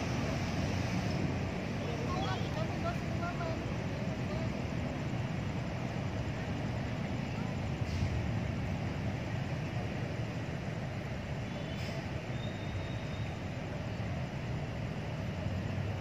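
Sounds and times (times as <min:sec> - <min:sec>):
distant road traffic: 0:00.0 - 0:16.0.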